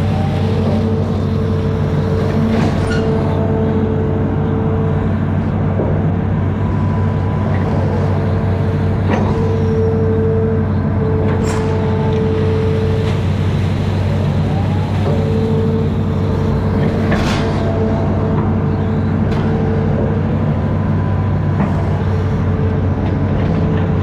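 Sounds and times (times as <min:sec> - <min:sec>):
diesel engine running: 0:00.0 - 0:24.0
engine whine: 0:00.0 - 0:24.0.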